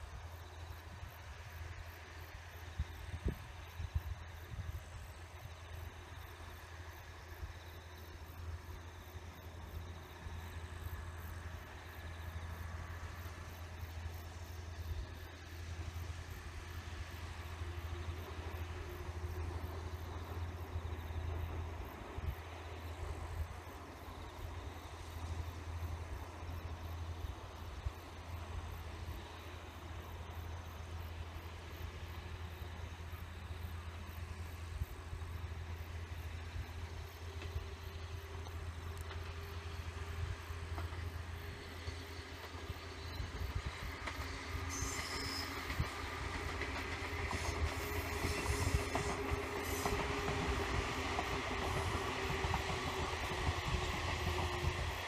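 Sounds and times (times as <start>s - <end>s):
insects chirping in pulses: 0.0s - 55.0s.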